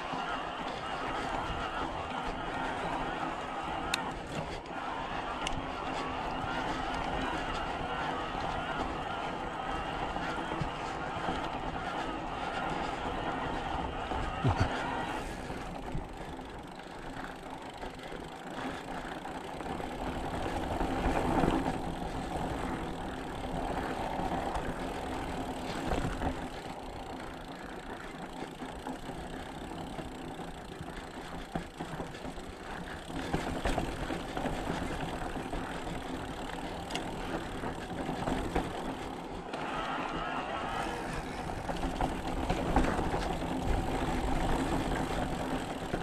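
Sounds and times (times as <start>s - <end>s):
bike rattles and clicks: 0.0s - 46.0s.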